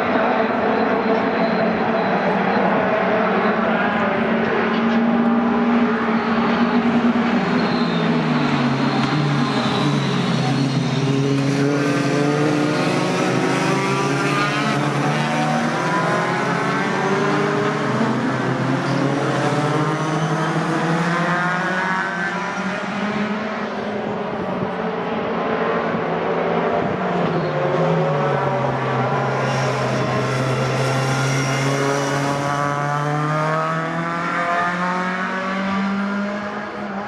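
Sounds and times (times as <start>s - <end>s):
truck engines revving and passing: 0.0s - 37.0s.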